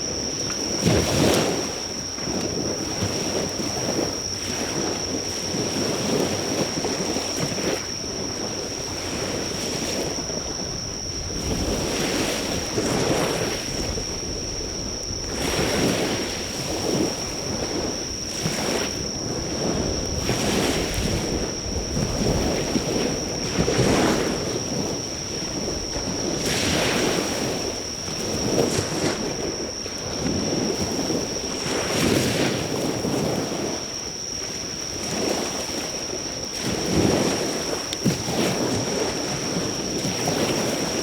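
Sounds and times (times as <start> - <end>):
waves breaking on shore: 0.0 - 41.0.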